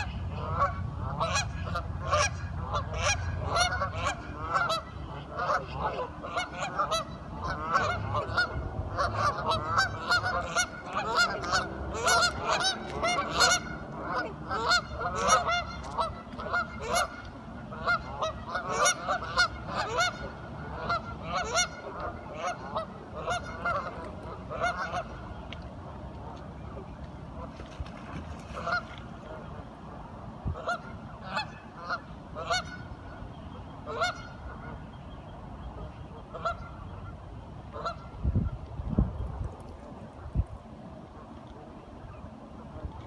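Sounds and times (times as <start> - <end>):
ducks quacking: 0.0 - 25.4, 26.3 - 29.7, 30.6 - 33.2, 33.8 - 34.8, 35.7 - 38.2.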